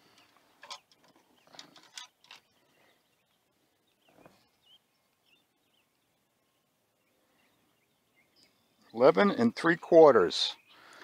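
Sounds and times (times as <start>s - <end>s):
faint bird chirps: 0.0s - 9.1s.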